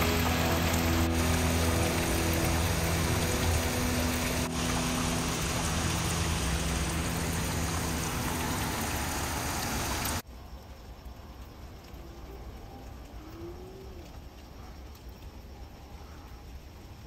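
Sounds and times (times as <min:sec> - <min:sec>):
heavy rain on pavement: 0:00.0 - 0:17.0
runoff water in gutter: 0:00.0 - 0:17.0.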